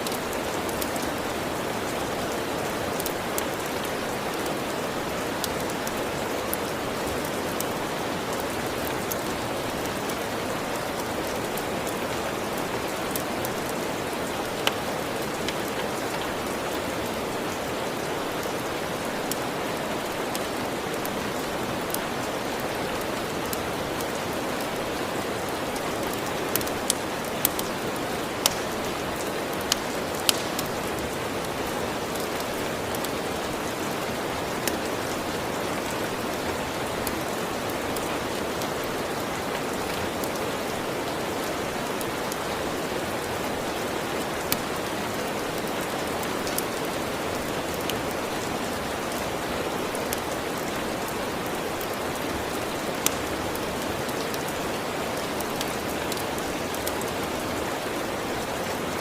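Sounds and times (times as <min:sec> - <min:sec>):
wood fire crackling: 0:00.0 - 0:57.4
rain falling: 0:00.0 - 0:59.0.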